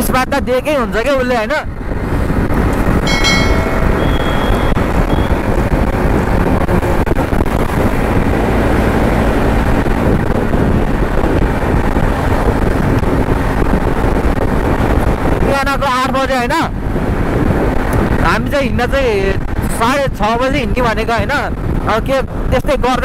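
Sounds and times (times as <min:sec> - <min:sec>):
wind rushing on microphone: 0:00.0 - 0:23.0.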